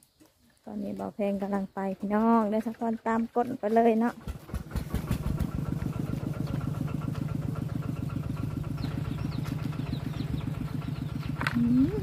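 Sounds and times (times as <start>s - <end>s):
small engine idling: 1.3s - 12.0s.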